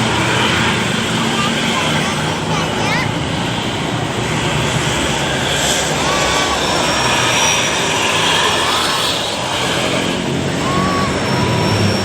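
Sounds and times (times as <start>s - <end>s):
bus engines and tyres passing: 0.0s - 12.0s.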